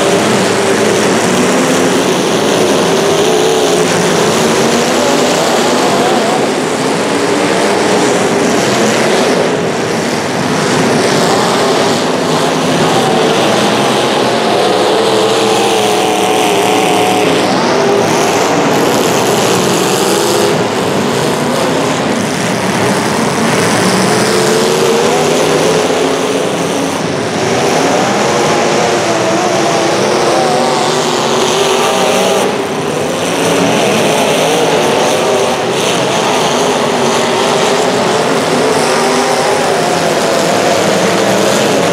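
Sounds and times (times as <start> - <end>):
racing engines running hard: 0.0 - 41.9
vehicles sweeping past: 0.0 - 41.9.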